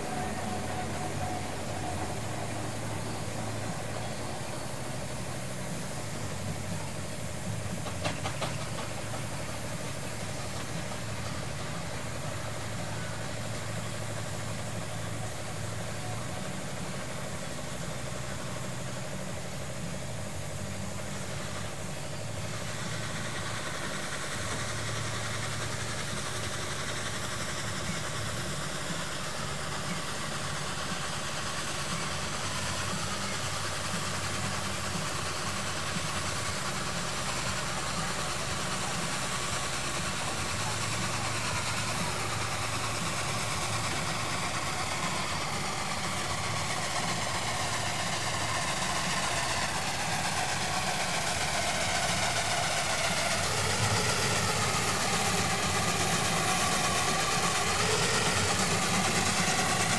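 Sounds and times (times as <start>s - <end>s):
engine idling: 0.0s - 59.9s
hiss: 0.0s - 59.9s.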